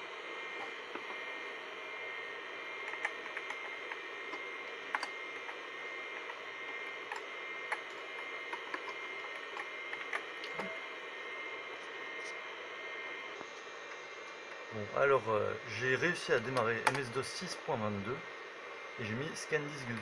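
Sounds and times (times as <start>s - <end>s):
computer hum and hiss: 0.0s - 20.0s.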